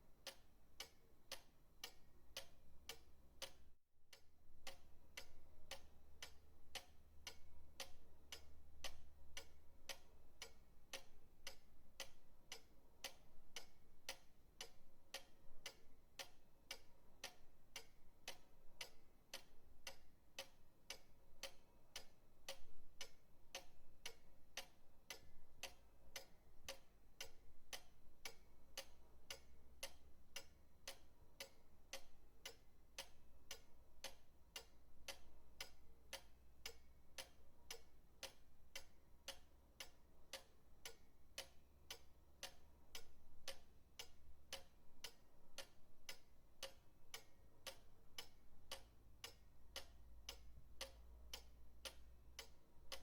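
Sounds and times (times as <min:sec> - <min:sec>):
pendulum clock ticking: 0:00.0 - 0:53.0.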